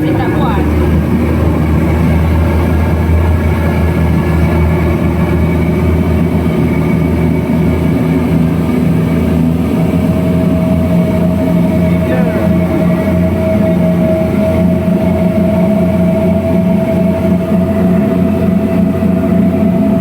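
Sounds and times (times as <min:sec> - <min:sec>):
speedboat engines droning: 0:00.0 - 0:20.0.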